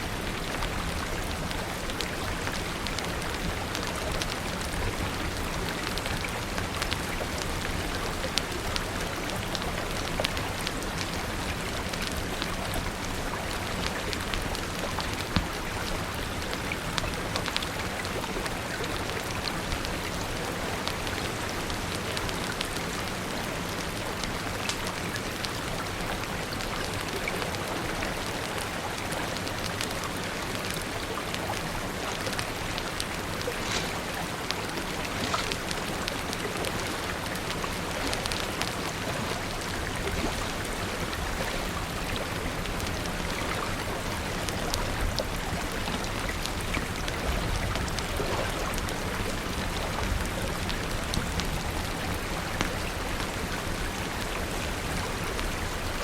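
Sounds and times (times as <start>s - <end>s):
steady rain: 0.0s - 56.0s
sharp ticks and pops: 0.1s - 55.8s.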